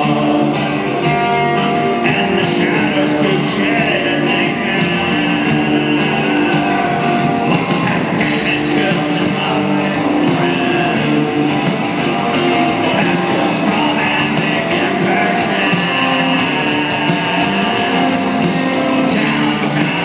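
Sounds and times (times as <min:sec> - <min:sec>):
live rock band: 0:00.0 - 0:20.0.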